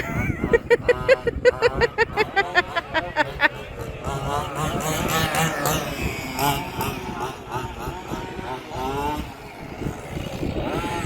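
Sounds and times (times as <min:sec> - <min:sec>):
rc car engines revving: 0:00.0 - 0:11.0.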